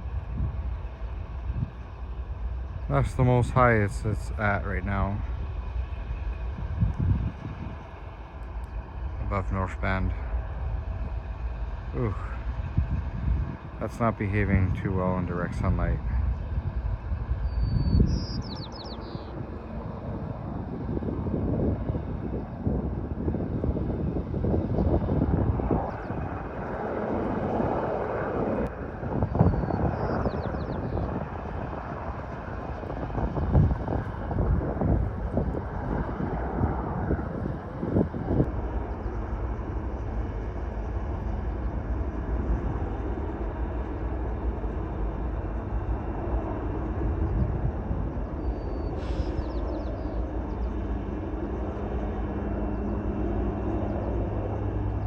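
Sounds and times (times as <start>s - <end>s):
aircraft engine drone: 0.0s - 55.0s
wind buffeting microphone: 0.0s - 55.0s.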